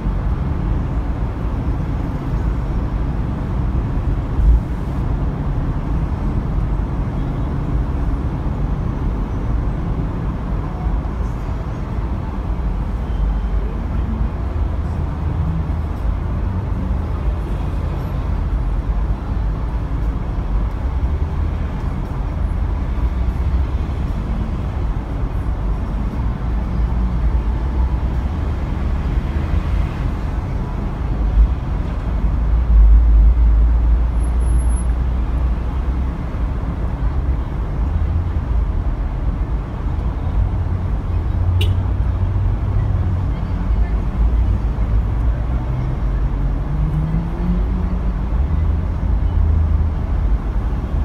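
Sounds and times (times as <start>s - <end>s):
low rumble of vehicle traffic: 0.0s - 51.0s.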